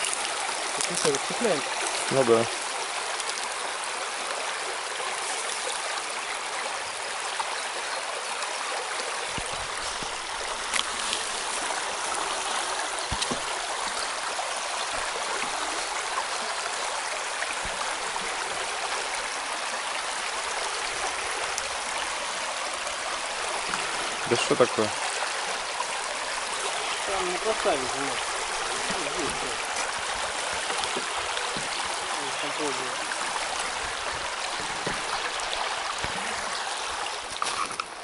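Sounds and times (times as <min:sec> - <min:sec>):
stream babbling over stones: 0:00.0 - 0:38.0.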